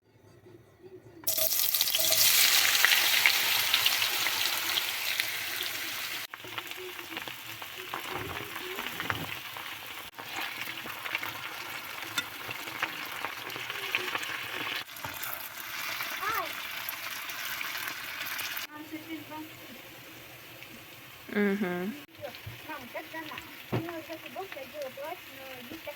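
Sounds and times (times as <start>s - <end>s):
potatoes sizzling in hot oil: 1.3s - 21.3s, 22.1s - 25.9s.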